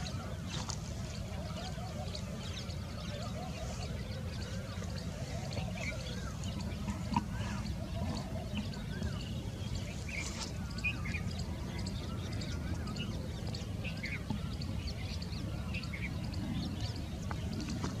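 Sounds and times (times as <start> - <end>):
birds chirping and calling: 0.0 - 18.0
steady low rumble: 0.0 - 18.0.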